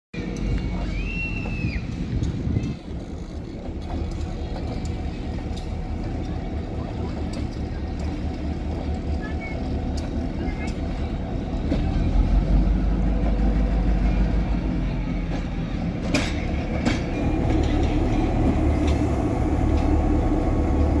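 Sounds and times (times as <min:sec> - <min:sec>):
diesel locomotive rumbling past: 0:00.2 - 0:21.0.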